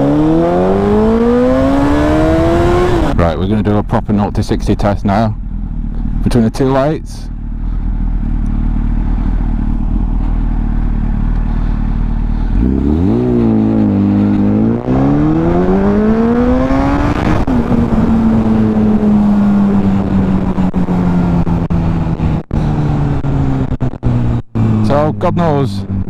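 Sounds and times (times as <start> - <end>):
motorcycle engine idling and revving: 0.0 - 26.0
rushing wind: 0.0 - 26.0.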